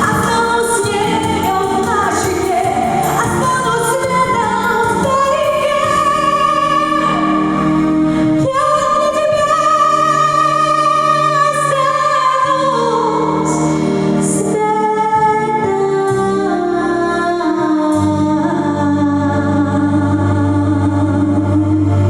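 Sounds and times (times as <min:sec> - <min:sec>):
backing music: 0:00.0 - 0:22.0
woman singing: 0:00.0 - 0:22.0.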